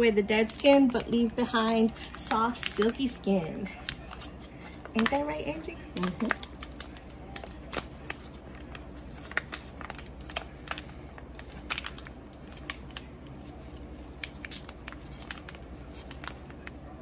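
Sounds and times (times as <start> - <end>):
plastic pouch crinkling: 0.5 - 17.0.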